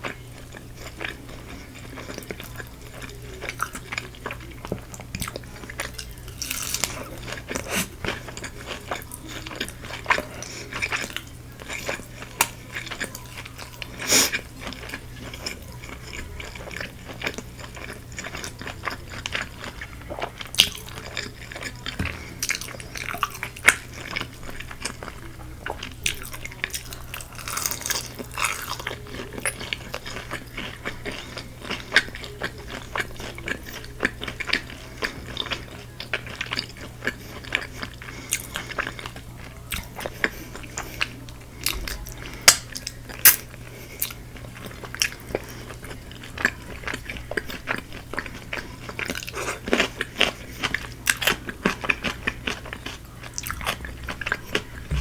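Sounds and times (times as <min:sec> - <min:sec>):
crunchy chewing of fried chicken: 0:00.0 - 0:55.0.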